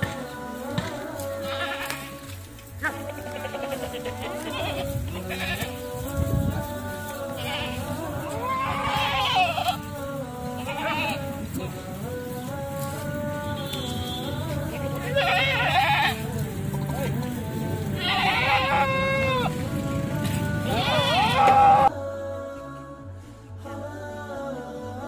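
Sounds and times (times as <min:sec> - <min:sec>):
goats bleating: 0:00.0 - 0:21.9
background music: 0:00.0 - 0:25.0.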